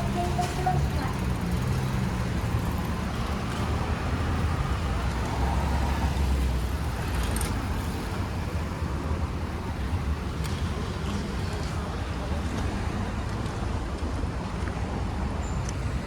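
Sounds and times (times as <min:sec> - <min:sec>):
rumble of cars: 0:00.0 - 0:16.0.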